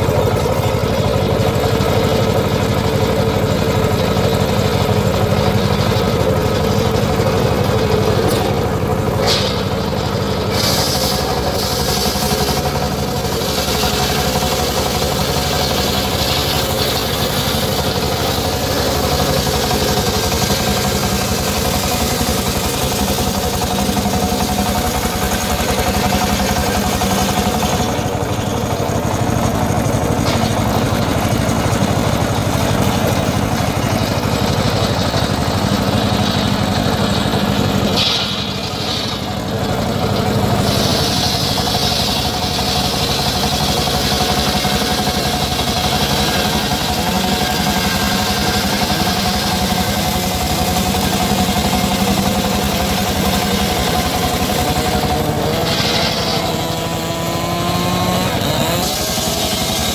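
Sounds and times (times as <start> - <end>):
circular saw engine running: 0.0 - 59.9.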